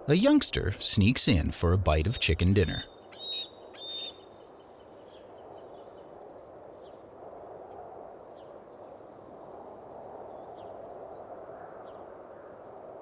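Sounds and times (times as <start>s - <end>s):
outdoor ambient noise: 0.0s - 13.0s.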